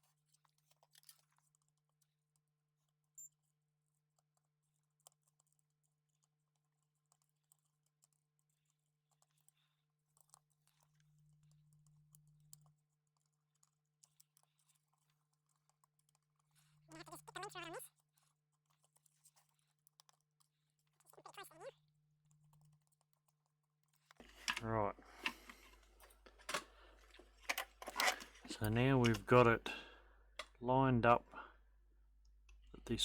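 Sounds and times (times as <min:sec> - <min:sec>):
small parts clicking and tapping: 0:00.0 - 0:30.6.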